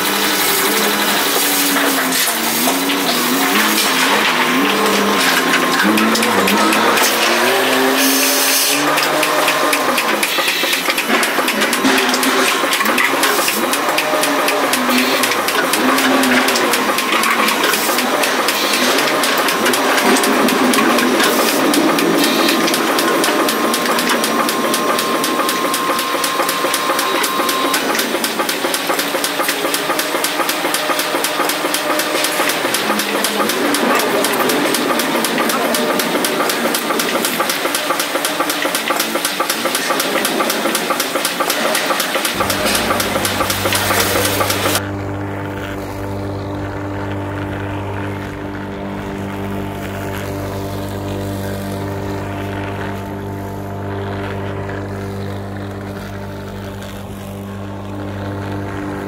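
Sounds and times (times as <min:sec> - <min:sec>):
milking machine vacuum hiss pulsing: 0:00.0 - 0:59.0
thin steady whine: 0:00.0 - 0:59.0.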